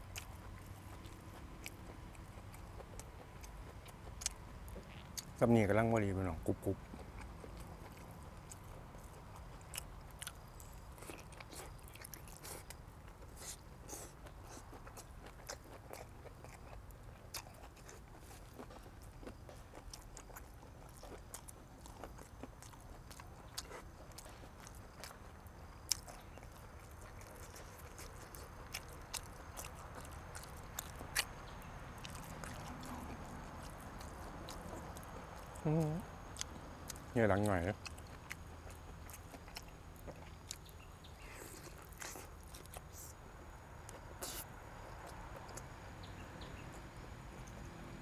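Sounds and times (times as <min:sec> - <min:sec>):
person chewing meat: 0:00.0 - 0:05.4, 0:06.6 - 0:47.6.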